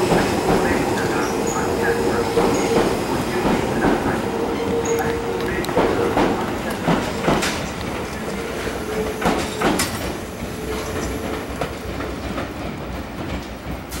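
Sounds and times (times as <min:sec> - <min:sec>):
train rumble: 0:00.0 - 0:14.0
train wheels clacking over rail joints: 0:00.0 - 0:14.0.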